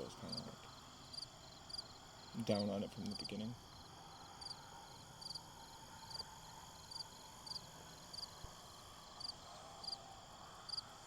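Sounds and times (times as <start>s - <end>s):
insects chirping: 0.0s - 11.0s
steady high insect trill: 0.0s - 11.0s.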